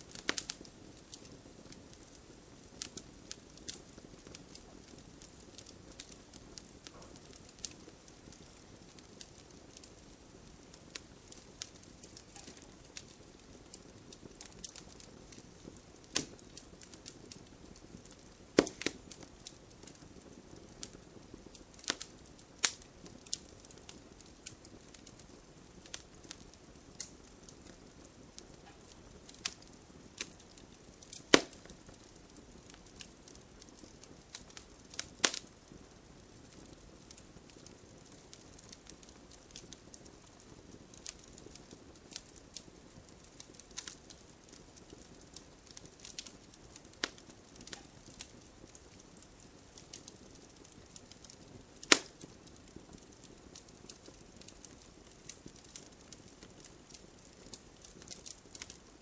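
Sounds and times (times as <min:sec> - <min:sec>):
sharp fire pops: 0:00.0 - 0:35.8, 0:43.3 - 0:59.0
bonfire crackling: 0:00.0 - 0:59.0
faint rain hiss: 0:00.0 - 0:59.0.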